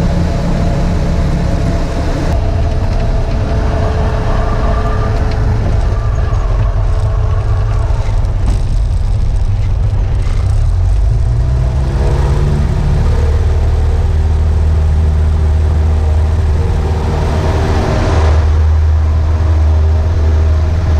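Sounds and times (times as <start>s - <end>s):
propeller aircraft engine running: 0.0s - 20.9s.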